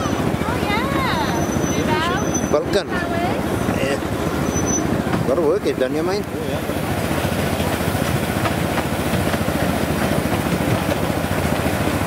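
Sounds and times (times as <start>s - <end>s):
miniature train rumbling: 0.0s - 12.0s.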